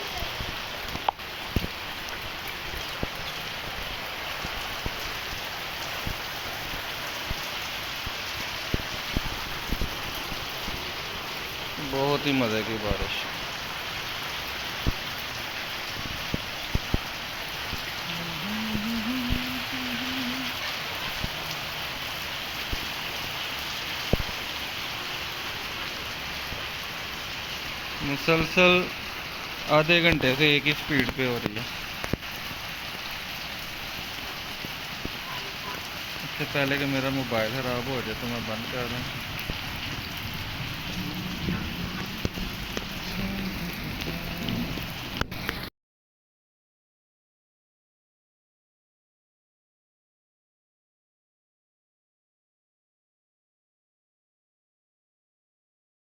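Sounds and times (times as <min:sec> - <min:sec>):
heavy rain: 0:00.0 - 0:45.7.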